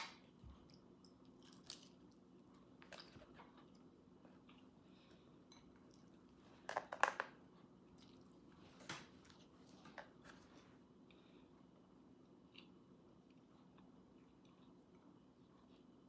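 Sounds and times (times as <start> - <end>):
faint low hum: 0.0 - 16.0
person chewing food: 0.2 - 6.6, 7.4 - 16.0.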